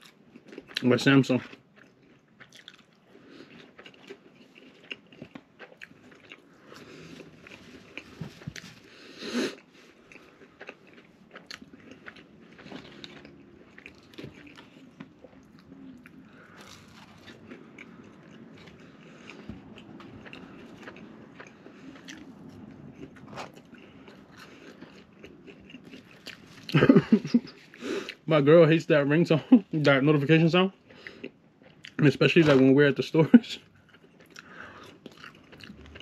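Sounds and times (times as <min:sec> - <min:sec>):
chewing food: 0:00.0 - 0:28.3, 0:30.2 - 0:36.0.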